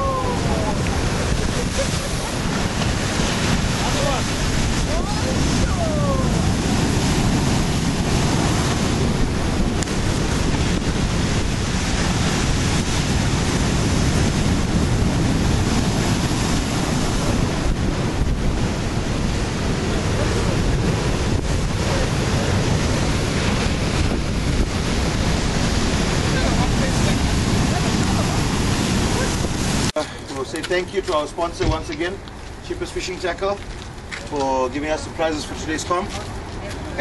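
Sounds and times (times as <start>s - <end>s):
ocean surf on rocky shore: 0.0s - 37.0s
wind buffeting microphone: 0.0s - 37.0s.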